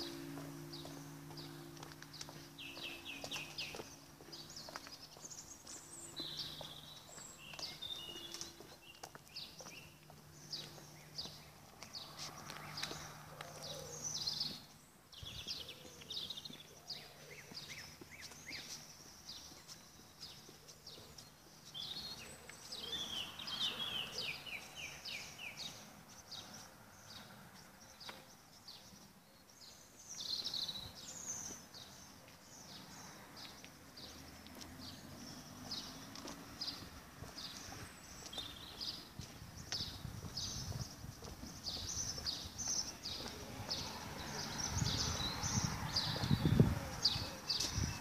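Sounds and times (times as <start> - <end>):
faint outdoor background noise: 0.0 - 48.0
songbirds chirping: 0.0 - 48.0.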